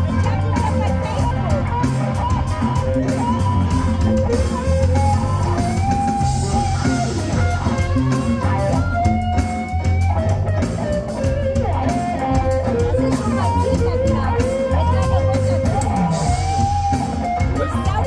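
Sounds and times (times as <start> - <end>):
electric guitar sliding notes: 0.0 - 18.0
live rock band playing: 0.0 - 18.0.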